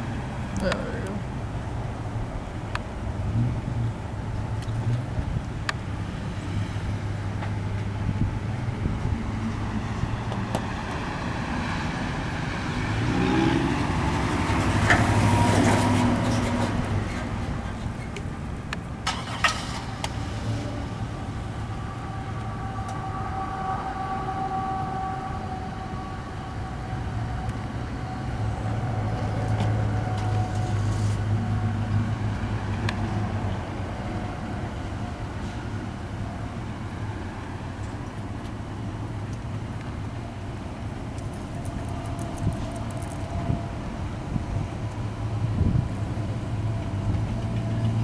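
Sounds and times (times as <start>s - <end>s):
distant freight train passing: 0.0s - 48.0s
engine hum: 0.0s - 48.0s
idling road vehicles rumble: 0.0s - 48.0s.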